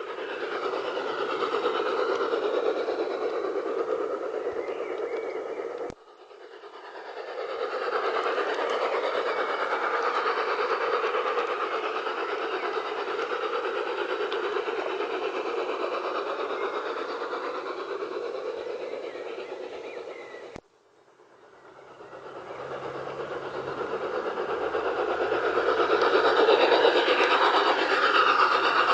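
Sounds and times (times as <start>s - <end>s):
model train running on track: 0.0s - 28.9s.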